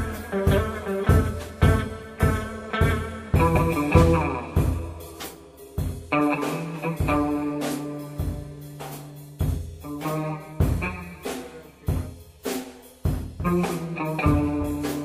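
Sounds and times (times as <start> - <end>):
sustained guitar notes: 0.0 - 9.2, 9.8 - 12.2, 13.4 - 15.0
drum kit playing: 0.0 - 15.0.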